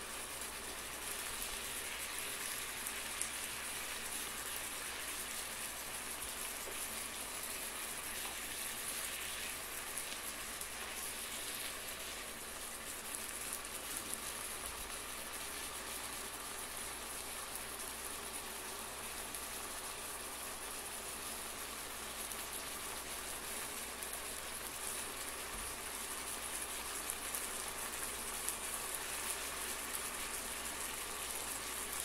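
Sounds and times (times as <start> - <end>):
chicken sizzling in frying pan: 0.0 - 32.0.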